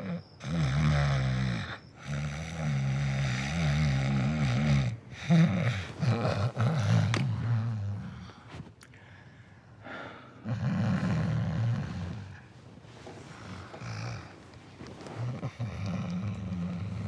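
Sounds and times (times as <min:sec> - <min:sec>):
woman snoring: 0:00.0 - 0:08.4, 0:09.9 - 0:12.4, 0:13.3 - 0:14.4, 0:15.0 - 0:17.0.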